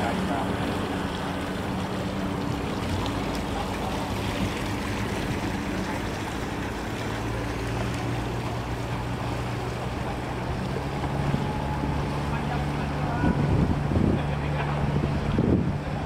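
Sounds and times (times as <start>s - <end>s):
outboard motor running: 0.0s - 16.0s
water wash: 0.0s - 16.0s.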